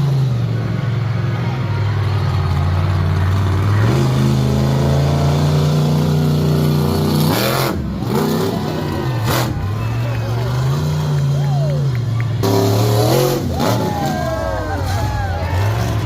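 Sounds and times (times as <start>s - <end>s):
large vehicle engine revving: 0.0s - 16.0s.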